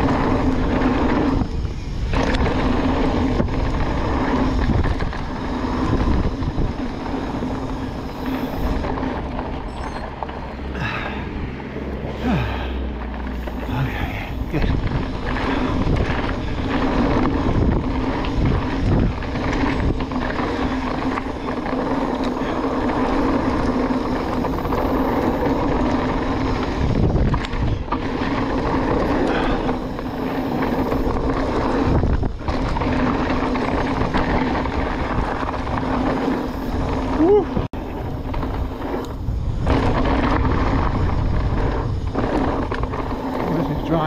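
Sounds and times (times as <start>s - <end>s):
wind on microphone: 0.0s - 10.1s, 13.4s - 44.0s
bike rattling: 0.0s - 44.0s
constant hum: 0.0s - 44.0s
tyres on dirt and stones: 0.0s - 44.0s.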